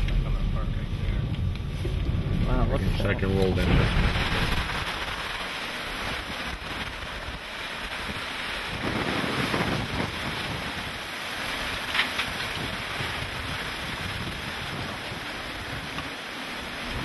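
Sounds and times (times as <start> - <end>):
wind and rain rushing: 0.0 - 17.0
wind buffeting microphone: 0.0 - 17.0.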